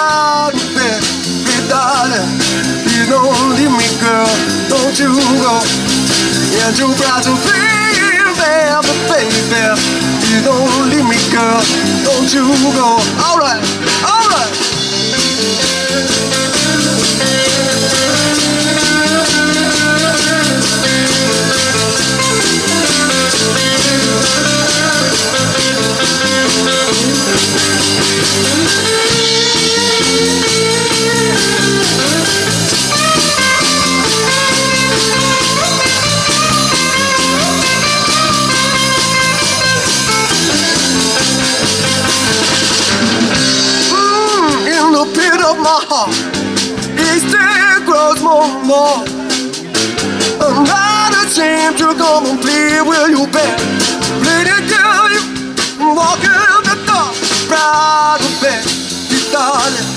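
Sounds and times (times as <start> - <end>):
bass guitar: 0.0 - 59.9
drum kit: 0.0 - 59.9
electric guitar lead: 0.0 - 59.9.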